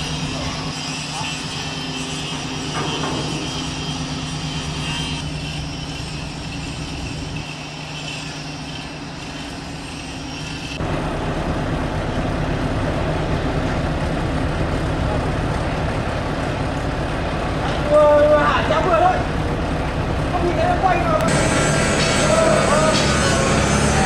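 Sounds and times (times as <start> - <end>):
heavy machinery engine: 0.0 - 24.0.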